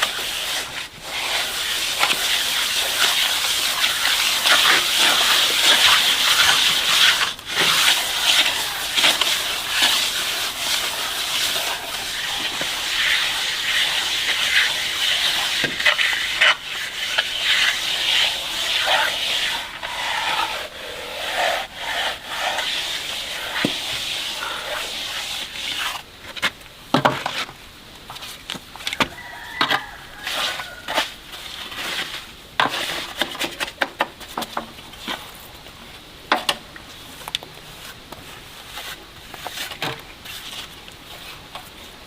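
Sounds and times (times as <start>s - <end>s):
hand tool scraping rough surface: 0.0s - 35.4s, 37.1s - 41.9s.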